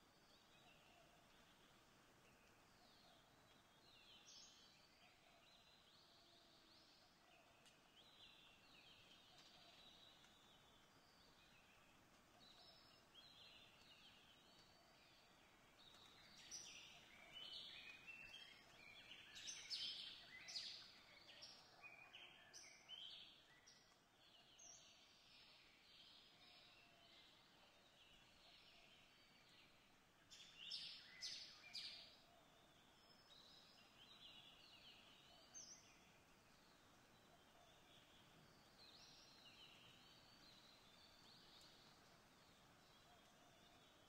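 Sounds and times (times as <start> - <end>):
faint birds chirping and trilling: 0.0 - 44.0.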